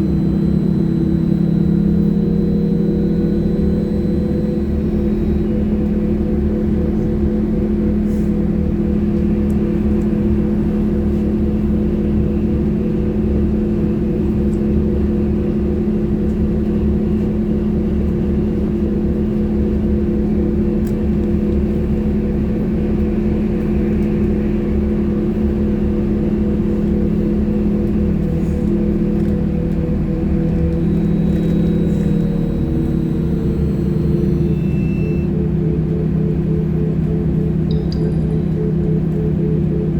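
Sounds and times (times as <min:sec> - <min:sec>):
trolleybus electric hum: 0:00.0 - 0:39.9.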